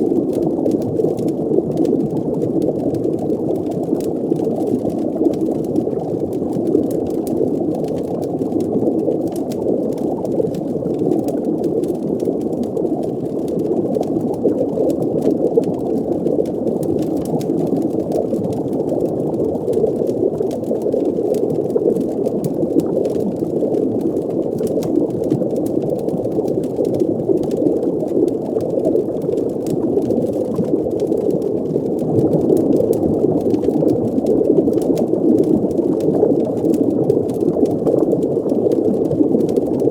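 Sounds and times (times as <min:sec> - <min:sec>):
faint crackles: 0:00.0 - 0:39.9
muffled underwater bubbling: 0:00.0 - 0:39.9.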